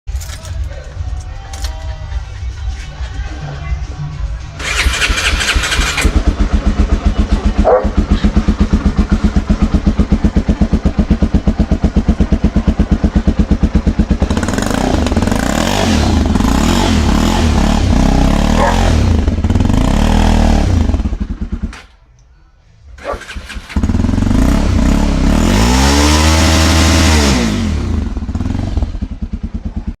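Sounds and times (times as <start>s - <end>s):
motorcycle engine idling: 0.1s - 25.3s, 27.9s - 30.0s
motorcycle engine starting: 4.4s - 22.1s, 22.9s - 30.0s
motorcycle engine revving: 4.6s - 22.0s, 23.0s - 30.0s.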